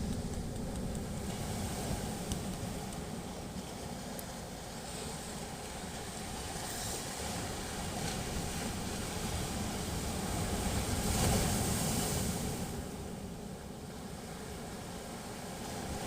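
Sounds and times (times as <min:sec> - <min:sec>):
waves washing: 0:00.0 - 0:16.0.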